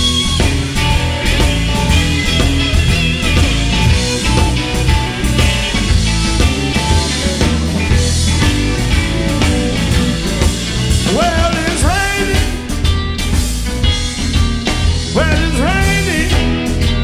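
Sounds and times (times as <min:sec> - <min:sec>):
bass guitar: 0:00.0 - 0:17.0
drum kit: 0:00.0 - 0:17.0
electric guitars: 0:00.0 - 0:17.0.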